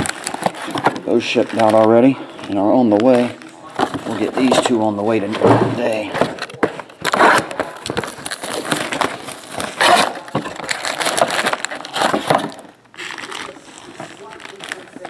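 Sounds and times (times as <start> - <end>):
cardboard box rustling: 0.0 - 15.0
foil packs crinkling: 0.0 - 15.0.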